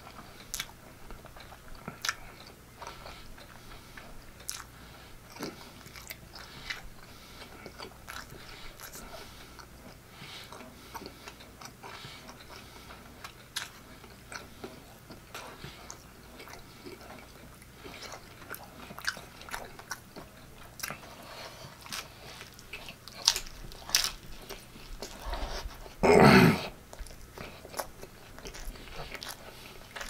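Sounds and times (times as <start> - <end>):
close-up chewing: 0.0 - 26.0, 26.6 - 30.0.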